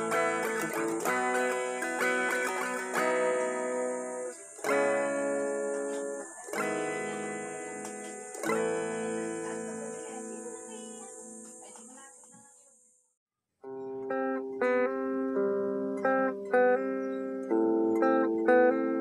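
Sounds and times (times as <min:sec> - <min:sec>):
electric guitar strummed chords: 0:00.0 - 0:12.0, 0:13.6 - 0:19.0.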